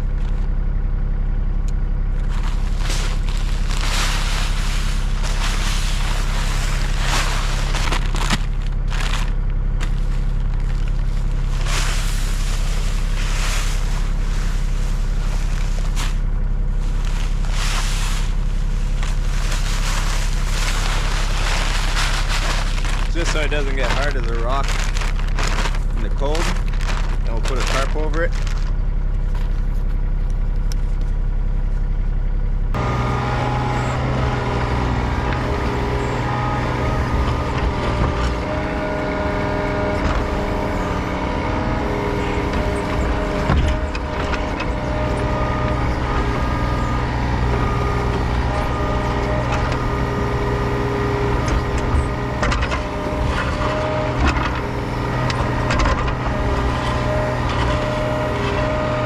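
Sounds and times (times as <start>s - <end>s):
diesel engine running: 0.0s - 59.0s
steady whine: 0.0s - 59.0s.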